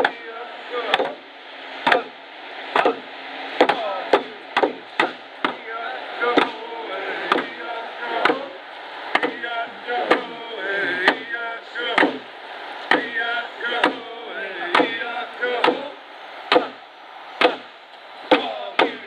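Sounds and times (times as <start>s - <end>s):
voices: 0.0s - 19.0s.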